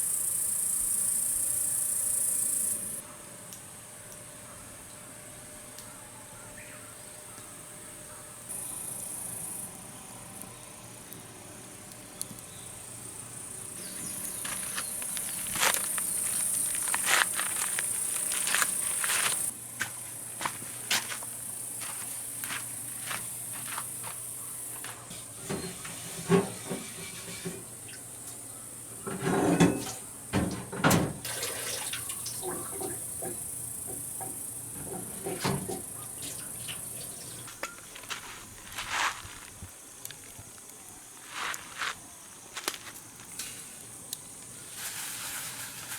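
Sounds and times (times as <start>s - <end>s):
high-pitched insect chorus: 0.0s - 3.0s, 8.5s - 11.0s, 12.3s - 45.9s.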